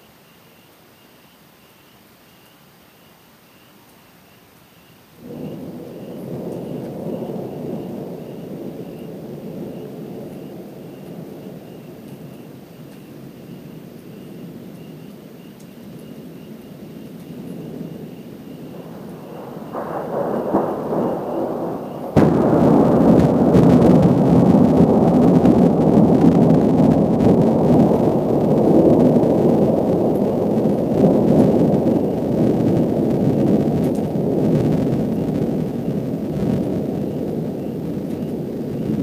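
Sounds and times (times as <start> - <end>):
thunder rumbling: 5.2 - 39.0.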